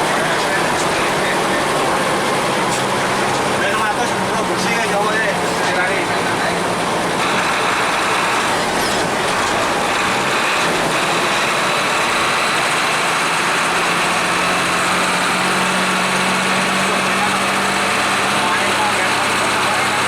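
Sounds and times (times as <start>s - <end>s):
bus engine running: 0.0s - 20.0s
road noise: 0.0s - 20.0s.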